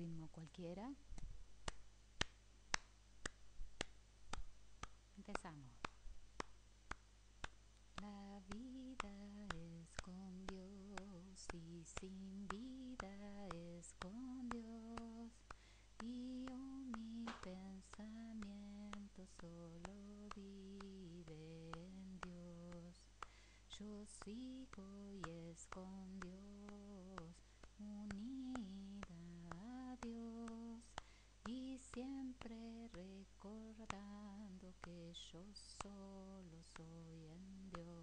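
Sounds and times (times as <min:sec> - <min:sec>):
woman singing: 0:05.2 - 0:06.0, 0:07.9 - 0:38.0.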